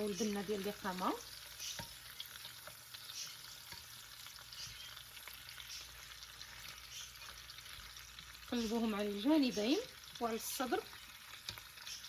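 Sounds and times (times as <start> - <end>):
birds frying in oil: 0.0 - 12.0.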